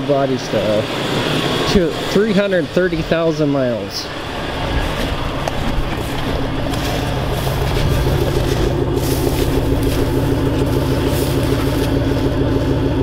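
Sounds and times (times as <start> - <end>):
pickup truck exhaust idling: 0.0 - 13.0.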